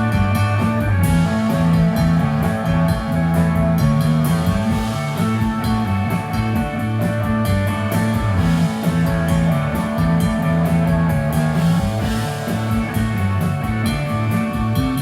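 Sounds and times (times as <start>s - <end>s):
rock music with guitar bass drums: 0.0s - 15.0s.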